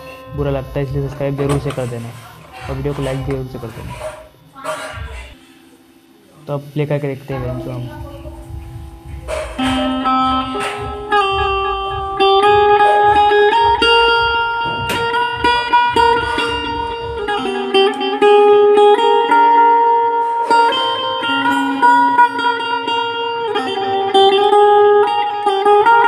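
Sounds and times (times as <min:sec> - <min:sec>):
plucked string zither melody: 0:00.0 - 0:05.8, 0:07.3 - 0:26.0.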